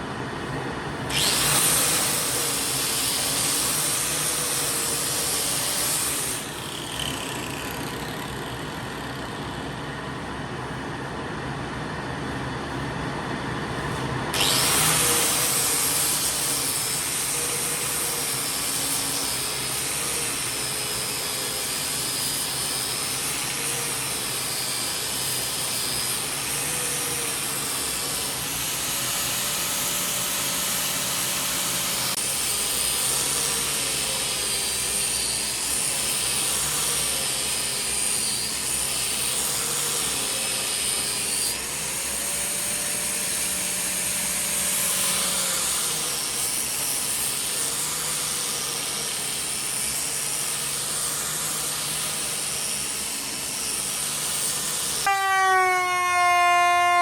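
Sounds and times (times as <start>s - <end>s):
electric power tool running: 1.0s - 10.0s, 14.3s - 57.0s.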